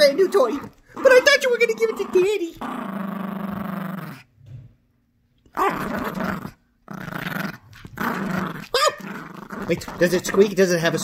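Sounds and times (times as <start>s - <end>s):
dog growling: 0.0s - 4.3s, 5.5s - 11.0s.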